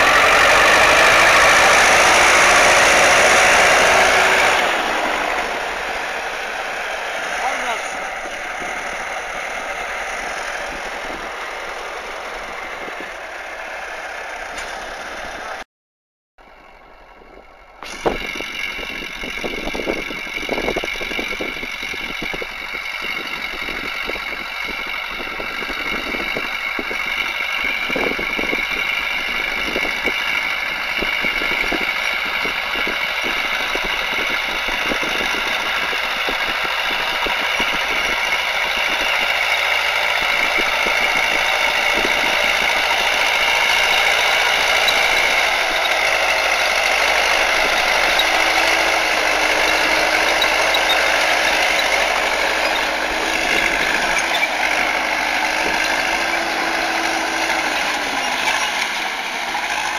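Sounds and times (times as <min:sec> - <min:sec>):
tractor diesel engine running: 0:00.0 - 0:15.7, 0:16.4 - 0:59.9.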